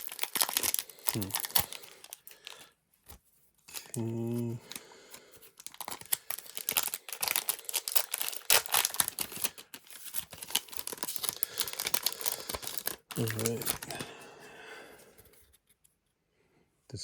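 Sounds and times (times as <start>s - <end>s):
foil wrapper crinkling and tearing: 0.0s - 14.1s.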